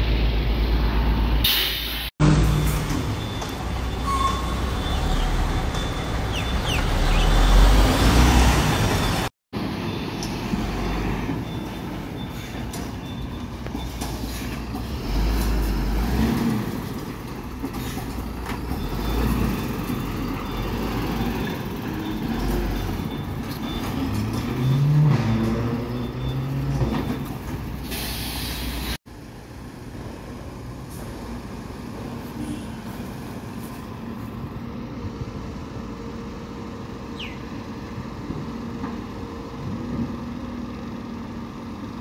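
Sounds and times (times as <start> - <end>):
truck diesel engine rumbling: 2.2 - 42.0.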